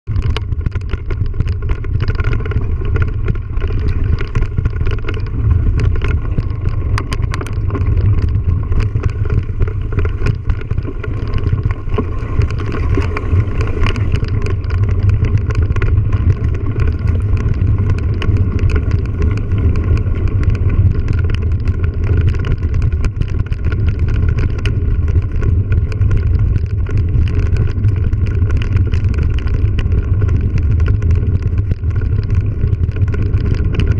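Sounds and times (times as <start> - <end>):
wind and rolling rumble: 0.0 - 33.9
bike clicks and rattles: 0.1 - 33.9.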